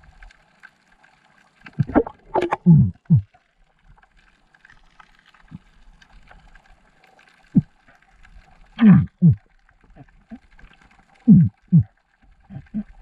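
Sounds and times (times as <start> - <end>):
underwater gurgling: 0.0 - 13.0.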